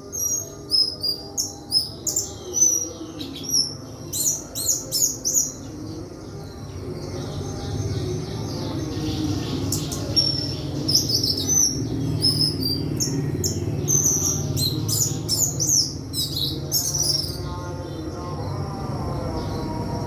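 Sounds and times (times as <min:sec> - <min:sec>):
bird chirping and trilling: 0:00.0 - 0:20.0.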